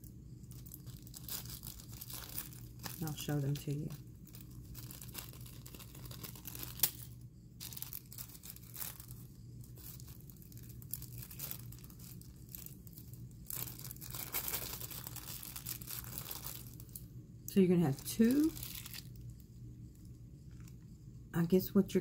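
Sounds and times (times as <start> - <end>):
plastic package crinkling: 0.0 - 17.2, 17.8 - 20.8.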